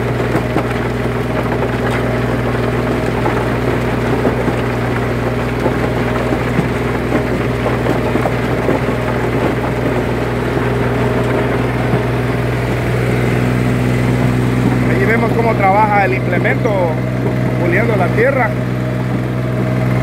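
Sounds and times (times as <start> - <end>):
rotary tiller churning soil: 0.0 - 20.0
tiller knocks: 0.0 - 20.0
tractor diesel engine running: 0.0 - 20.0.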